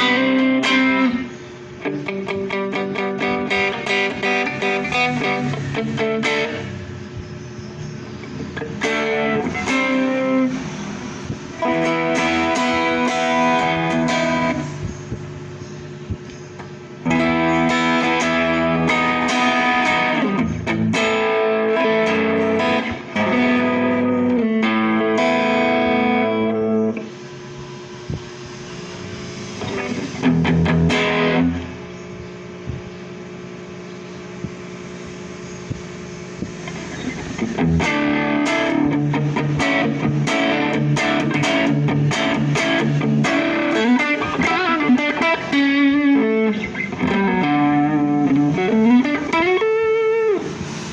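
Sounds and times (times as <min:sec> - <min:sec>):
electric guitar playing: 0:00.0 - 0:07.1, 0:08.2 - 0:15.3, 0:16.6 - 0:27.5, 0:29.0 - 0:32.2, 0:36.4 - 0:50.9.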